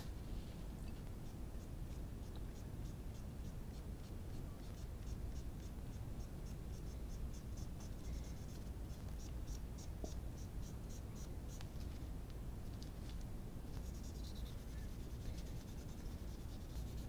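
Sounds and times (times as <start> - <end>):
cotton swab scratching plastic: 0.9 - 12.0, 12.7 - 17.0.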